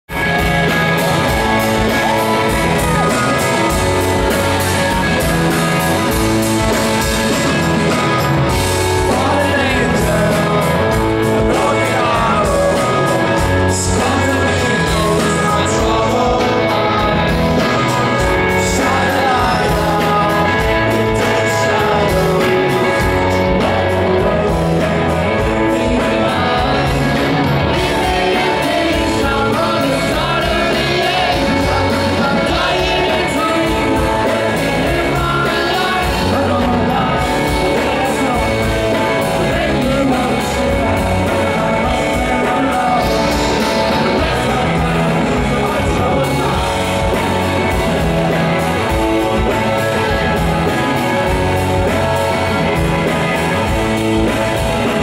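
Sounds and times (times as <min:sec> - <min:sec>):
live rock band playing: 0:00.1 - 0:55.0
male lead vocal: 0:00.1 - 0:55.0.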